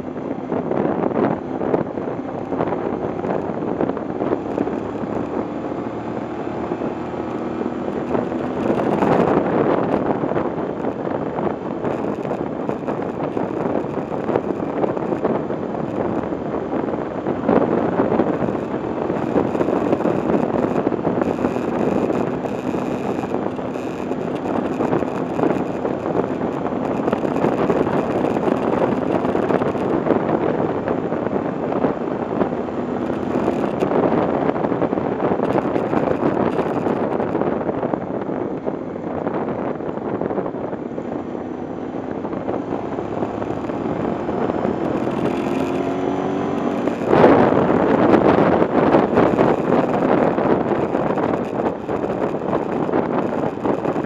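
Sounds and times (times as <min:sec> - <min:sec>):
motorcycle engine revving: 0:00.0 - 0:54.0
wind rushing over microphone: 0:00.0 - 0:54.0.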